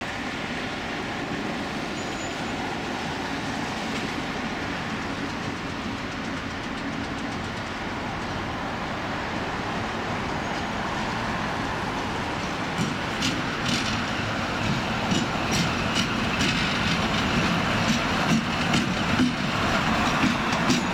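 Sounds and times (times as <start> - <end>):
diesel locomotive engine drone: 0.0 - 20.9.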